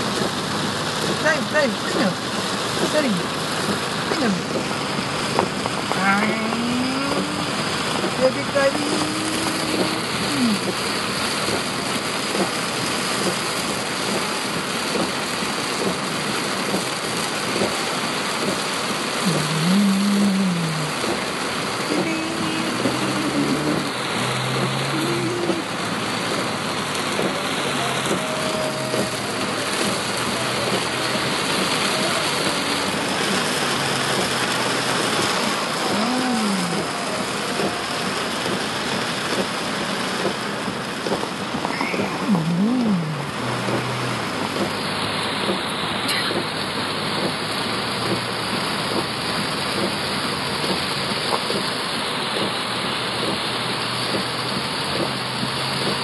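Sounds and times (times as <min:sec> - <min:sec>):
road and wind noise in car: 0:00.0 - 0:56.0.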